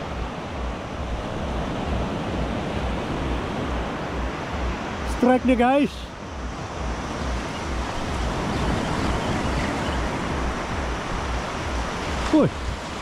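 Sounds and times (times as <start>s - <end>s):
wind buffeting microphone: 0.0s - 5.6s, 6.2s - 13.0s
surf washing up beach: 0.0s - 13.0s.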